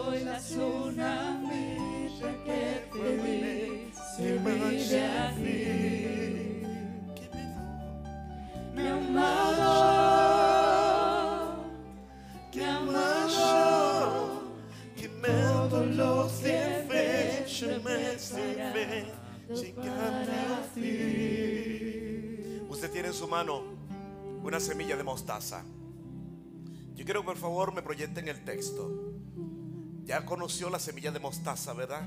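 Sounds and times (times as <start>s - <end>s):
group of singers: 0.0s - 7.6s, 8.4s - 27.2s, 28.4s - 30.6s.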